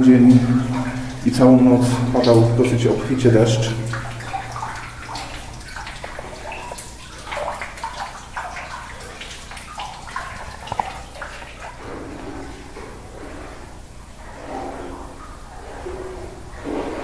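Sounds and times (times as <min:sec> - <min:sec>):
wading through water: 0:00.0 - 0:17.0.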